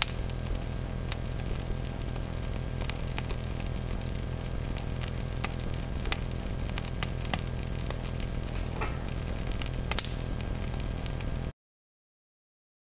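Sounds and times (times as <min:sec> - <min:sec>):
fire low rumble: 0:00.0 - 0:11.5
wood fire crackling and popping: 0:00.0 - 0:11.5.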